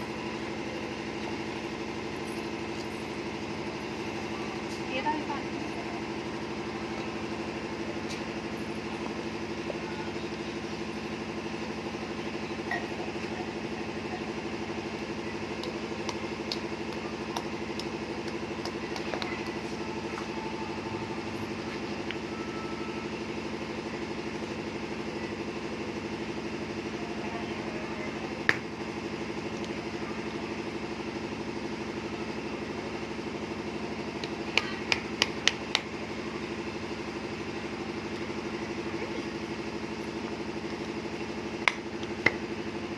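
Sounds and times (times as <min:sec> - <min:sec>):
steady motor hum: 0:00.0 - 0:42.9.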